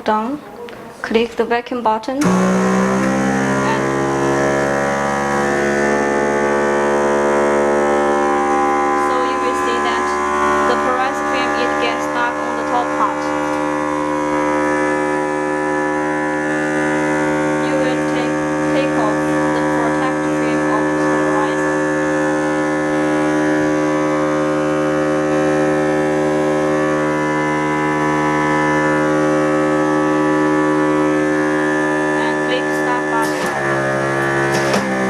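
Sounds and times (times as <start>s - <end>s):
vacuum pump humming: 2.2s - 35.0s.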